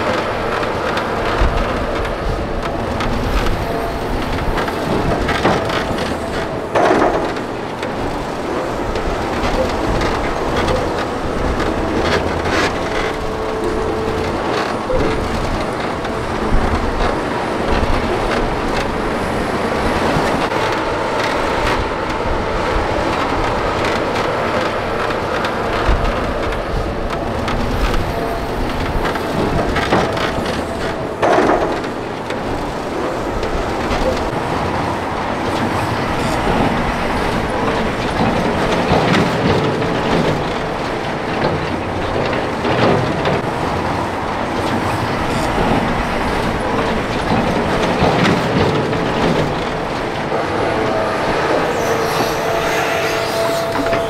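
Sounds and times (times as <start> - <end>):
metal rattling and clanking: 0.0 - 19.0, 23.0 - 54.0
diesel engine noise: 0.0 - 54.0.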